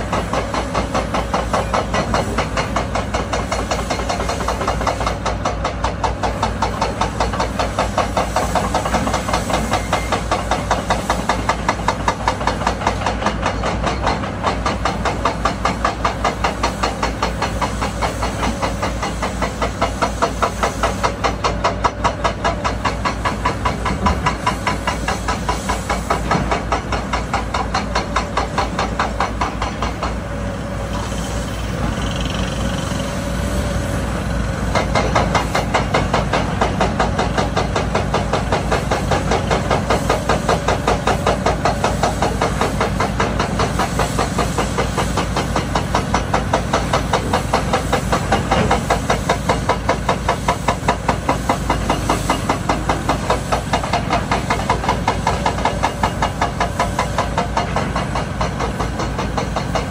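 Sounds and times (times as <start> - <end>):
diesel machinery knocking: 0.0 - 59.9.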